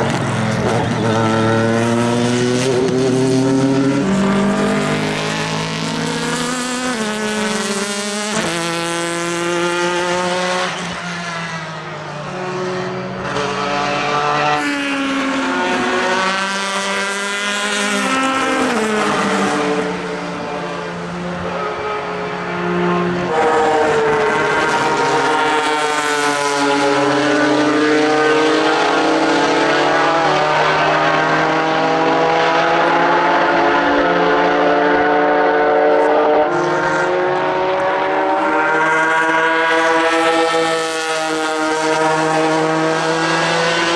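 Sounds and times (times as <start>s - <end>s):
racing car engine revving: 0.0s - 43.9s.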